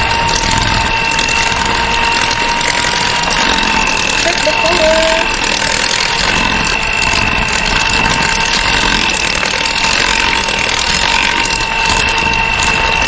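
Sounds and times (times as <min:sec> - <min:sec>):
electric mixer whirring: 0:00.0 - 0:13.0.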